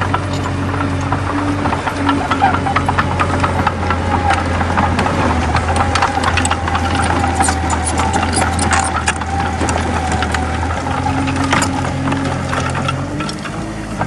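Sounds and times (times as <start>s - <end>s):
bulldozer diesel engine running: 0.0s - 14.0s
sharp metallic clicks and rattles: 0.0s - 14.0s.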